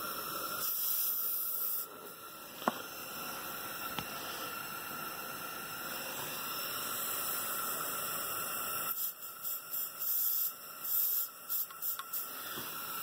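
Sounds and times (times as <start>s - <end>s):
air hissing from tyre valve: 0.0s - 13.0s.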